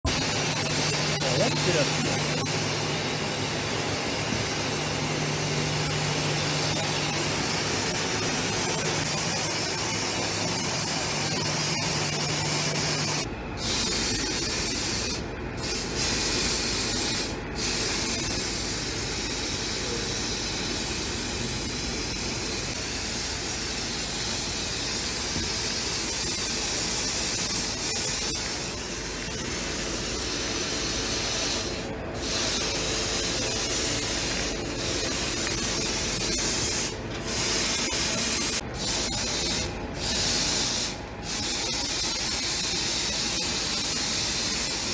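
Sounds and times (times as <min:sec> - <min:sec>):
compressed air hiss: 0:00.1 - 0:44.9.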